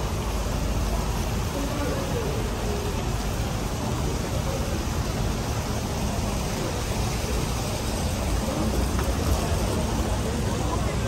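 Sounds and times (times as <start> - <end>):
fountain jets splashing: 0.0 - 11.0
outdoor background noise: 0.0 - 11.0.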